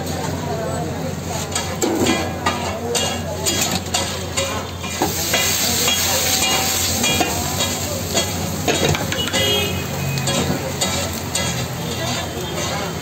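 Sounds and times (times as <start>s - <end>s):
dosa sizzling on griddle: 0.0s - 13.0s
metal utensils clicking and scraping: 1.4s - 13.0s.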